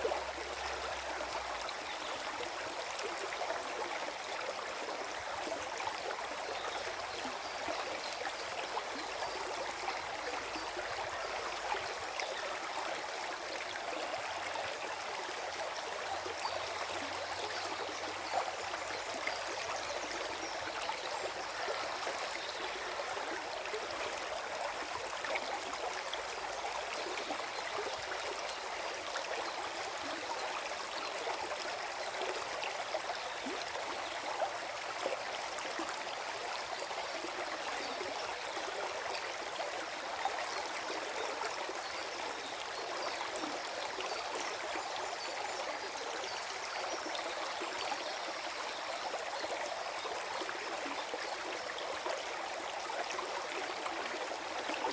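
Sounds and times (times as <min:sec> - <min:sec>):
stream flowing over stones: 0:00.0 - 0:54.9.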